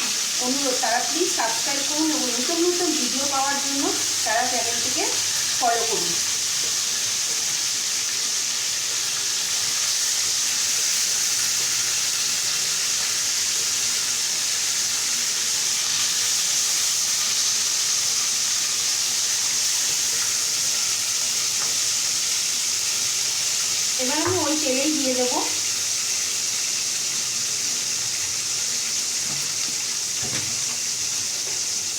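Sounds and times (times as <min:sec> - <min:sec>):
oil sizzling in a pan: 0:00.0 - 0:31.9.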